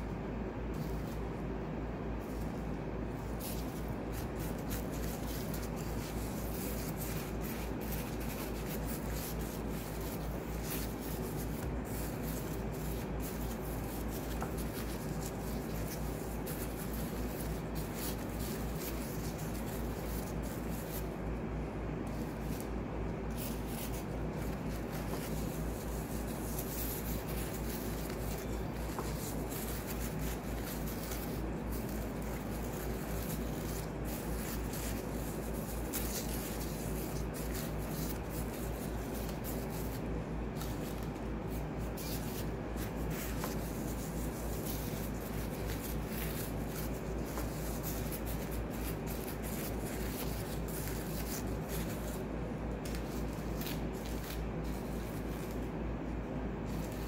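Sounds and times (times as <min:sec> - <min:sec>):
constant low hum: 0:00.0 - 0:57.0
gritty scratching of sugar: 0:00.6 - 0:55.8.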